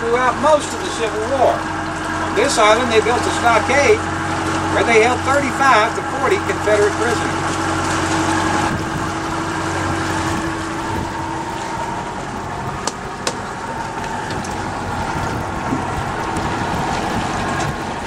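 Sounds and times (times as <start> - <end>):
boat engine running: 0.0 - 18.0
wind and water noise: 0.0 - 18.0.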